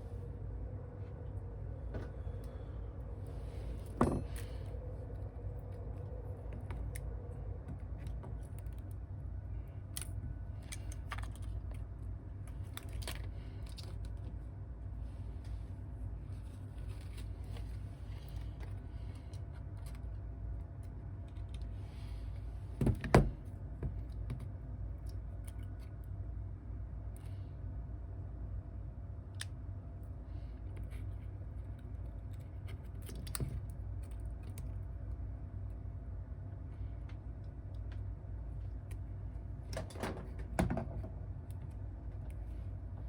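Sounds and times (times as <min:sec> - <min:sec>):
low hum: 0:00.0 - 0:43.0.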